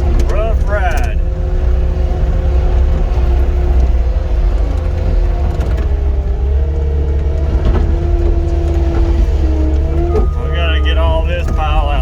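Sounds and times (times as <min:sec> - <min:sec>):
diesel engine rumble: 0:00.0 - 0:12.0
engine whine: 0:00.0 - 0:12.0.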